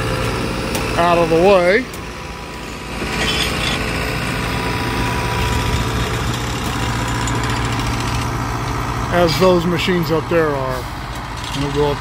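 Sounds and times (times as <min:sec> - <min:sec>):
machine engine idling: 0:00.0 - 0:12.0.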